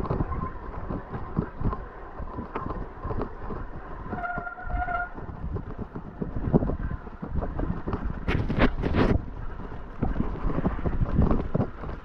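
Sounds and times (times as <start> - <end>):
mountain bike rattling: 0.0 - 12.0.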